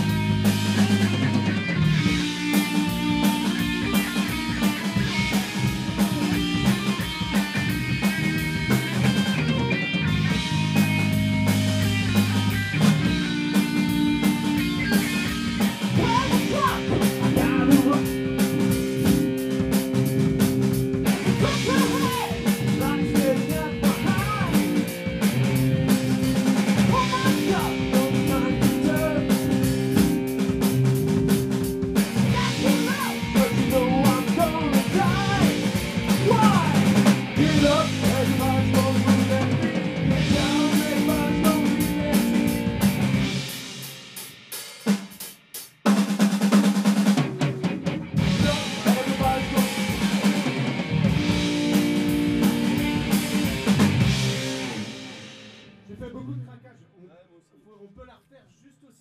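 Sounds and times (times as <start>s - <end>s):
rock band playing live: 0.0s - 55.9s.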